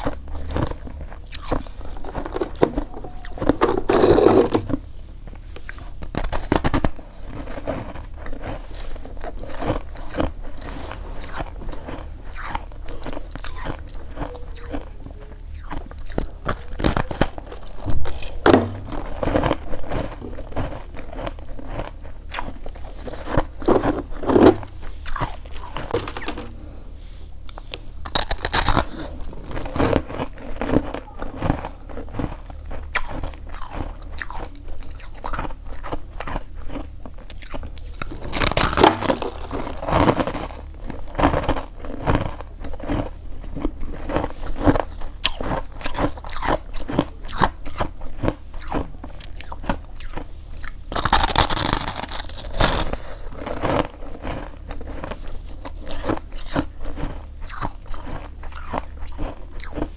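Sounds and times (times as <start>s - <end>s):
crunchy frost being chewed: 0.0s - 59.9s.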